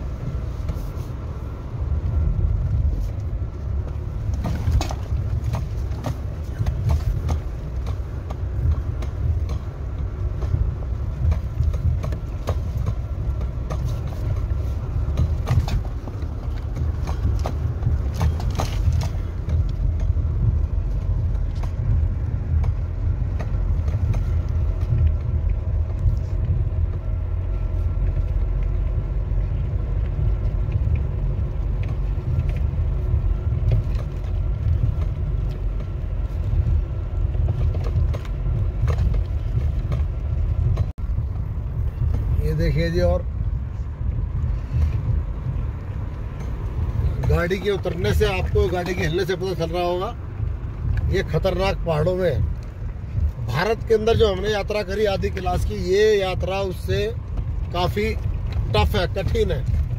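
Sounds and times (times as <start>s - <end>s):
engine and tyre rumble: 0.0s - 59.9s
vehicle knocks and rattles: 0.0s - 59.9s.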